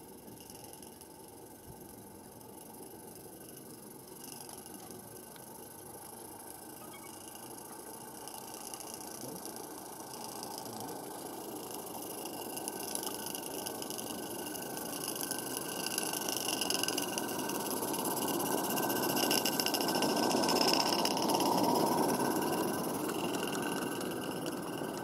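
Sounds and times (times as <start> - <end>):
steam locomotive running past: 2.8 - 25.0.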